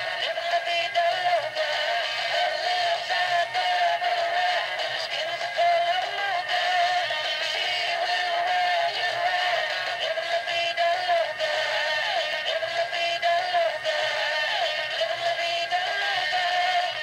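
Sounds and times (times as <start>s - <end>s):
dance song with synthesized singing: 0.0s - 17.0s.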